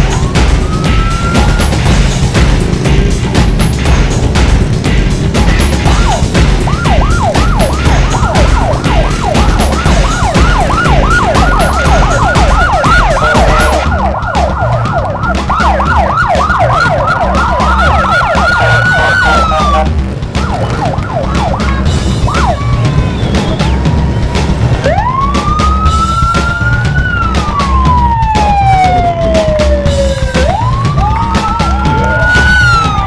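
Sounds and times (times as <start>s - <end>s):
motorcycle siren yelping: 0.0s - 2.3s, 5.8s - 33.0s
low rumble: 0.0s - 33.0s.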